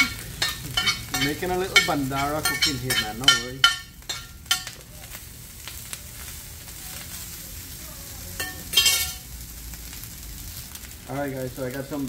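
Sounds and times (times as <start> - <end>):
rice sizzling on griddle: 0.0 - 12.0.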